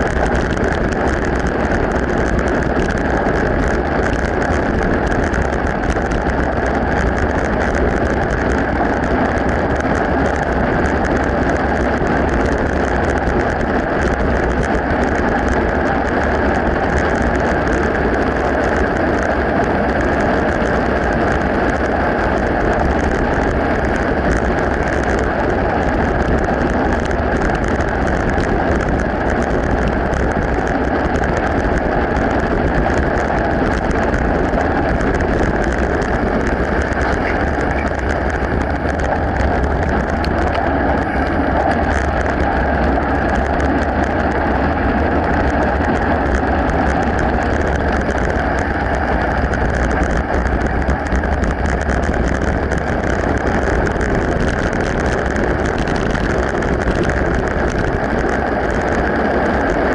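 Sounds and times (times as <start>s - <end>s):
bike tyres rolling on gravel: 0.0s - 59.9s
wind rumble on microphone: 0.0s - 59.9s.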